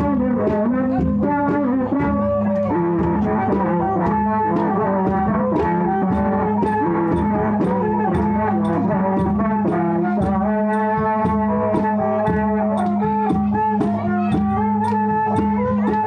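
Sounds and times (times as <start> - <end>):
drum beating: 0.0 - 16.0
wind instrument melody: 0.0 - 16.0.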